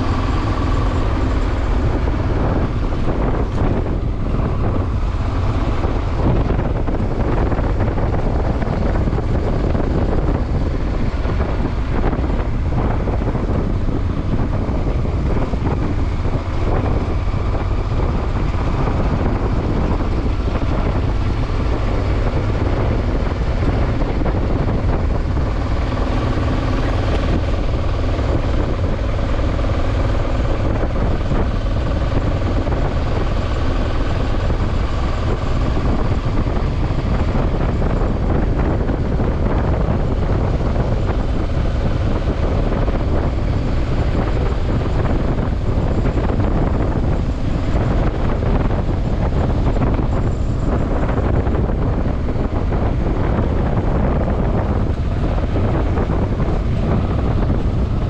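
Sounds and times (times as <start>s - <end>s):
vehicle rumbling: 0.0s - 58.0s.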